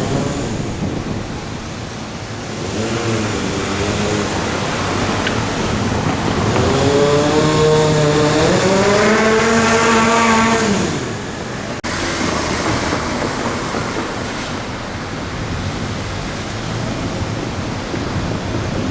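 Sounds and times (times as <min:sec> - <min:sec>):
vehicle accelerating: 0:00.0 - 0:18.9.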